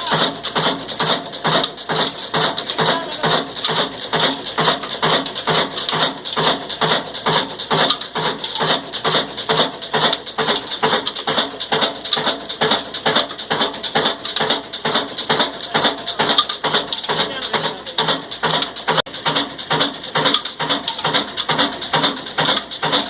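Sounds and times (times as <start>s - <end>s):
diesel engine exhaust beating: 0.0s - 23.0s
flour mill hissing and grinding: 0.0s - 23.0s.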